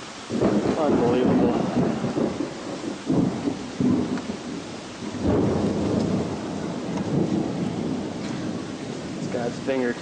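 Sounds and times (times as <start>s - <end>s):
rain: 0.0s - 10.0s
wind: 0.0s - 10.0s.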